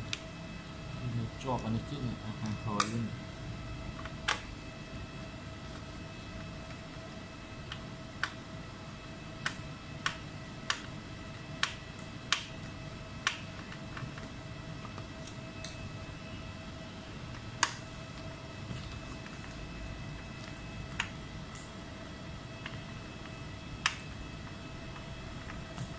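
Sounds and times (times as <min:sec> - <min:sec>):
faint electrical hum: 0:00.0 - 0:25.9.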